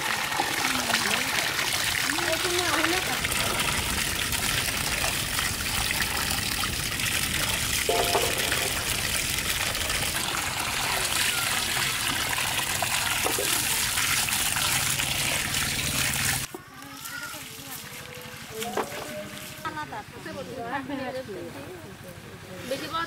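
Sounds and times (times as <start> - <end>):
water pouring steadily: 0.0 - 19.6.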